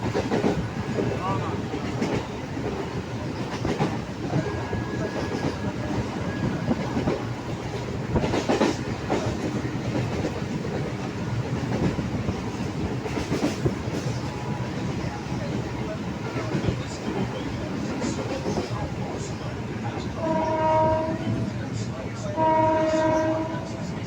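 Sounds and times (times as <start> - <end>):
train wheels clattering over rail joints: 0.0 - 21.5.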